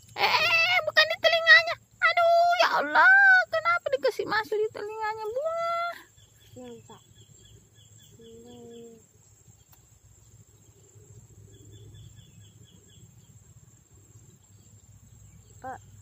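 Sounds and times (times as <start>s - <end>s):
high-pitched insect drone: 0.0s - 16.0s
rapid insect chirps: 0.0s - 16.0s.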